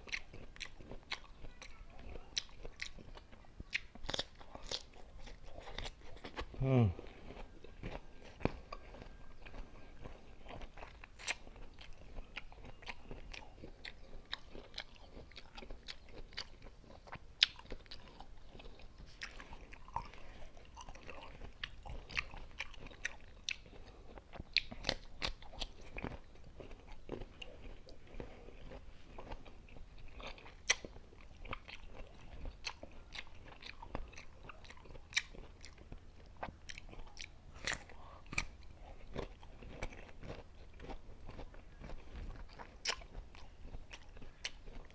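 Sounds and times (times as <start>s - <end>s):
mango being chewed crunchily: 0.0s - 44.9s.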